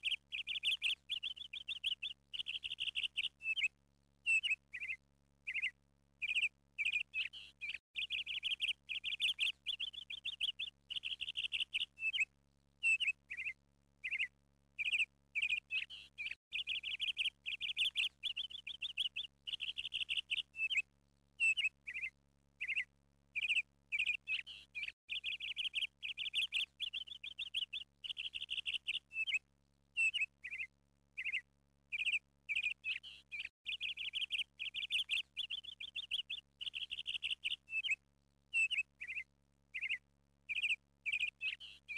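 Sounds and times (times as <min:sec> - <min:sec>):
bird chirping and twittering: 0:00.0 - 0:29.4, 0:30.0 - 0:41.9.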